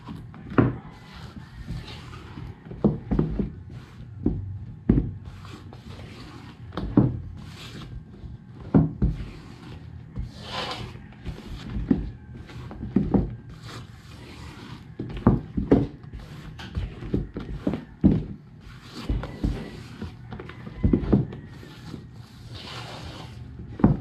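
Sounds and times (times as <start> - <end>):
batter swishing: 3.2 - 24.0.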